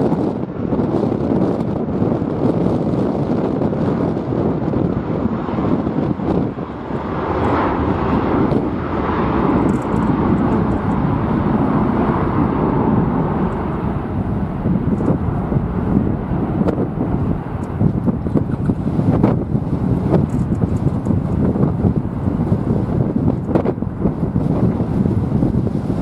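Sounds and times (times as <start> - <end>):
jet engine roar: 0.0 - 26.0
wind buffeting microphone: 0.0 - 26.0.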